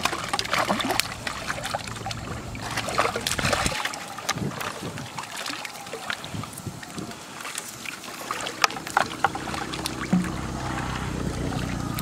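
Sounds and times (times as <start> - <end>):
muddy water splashing: 0.0 - 12.0
wind rumbling on microphone: 0.0 - 12.0.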